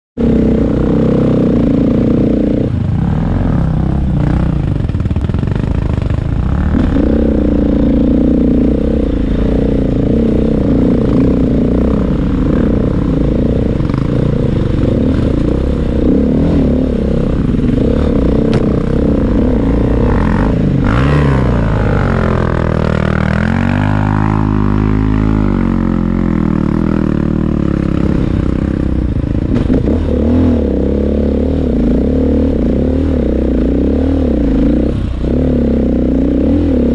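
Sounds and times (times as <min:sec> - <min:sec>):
dirt bike engine revving: 0:00.2 - 0:36.9.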